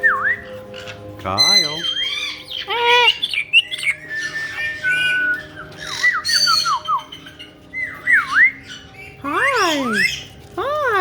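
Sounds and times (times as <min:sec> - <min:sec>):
parrots whistling and chirping: 0:00.0 - 0:11.0.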